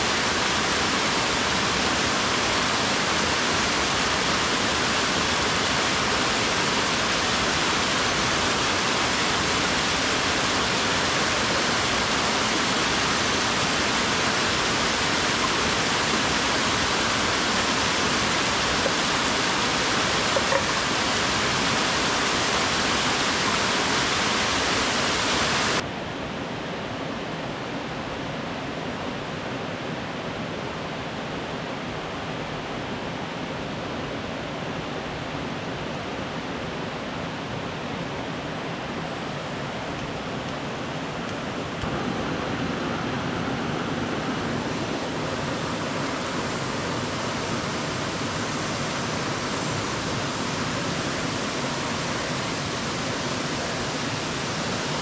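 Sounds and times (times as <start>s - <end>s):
water rushing over rocks: 0.0s - 25.9s, 33.6s - 55.0s.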